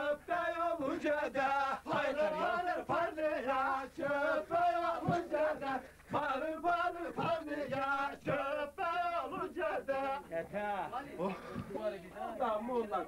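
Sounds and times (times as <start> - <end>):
man singing folk song: 0.0 - 10.6.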